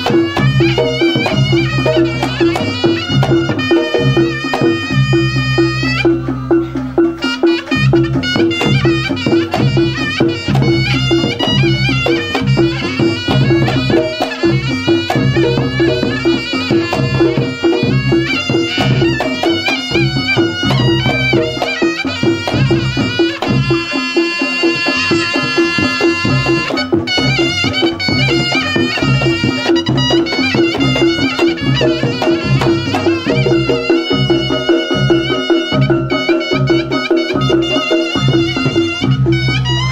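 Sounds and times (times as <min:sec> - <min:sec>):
hand drums: 0:00.0 - 0:39.9
repeating percussion pulse: 0:00.0 - 0:39.9
shrill reed trumpet melody: 0:00.0 - 0:39.9.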